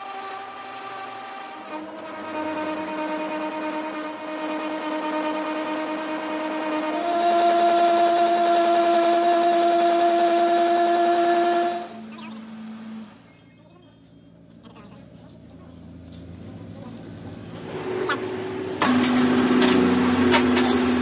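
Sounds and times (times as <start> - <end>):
metal lathe whining: 0.0 - 14.3, 18.2 - 21.0.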